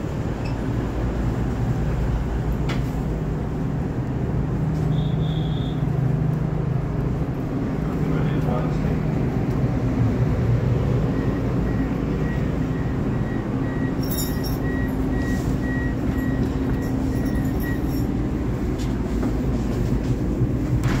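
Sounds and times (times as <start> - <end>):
train rumble and hum: 0.0 - 21.0.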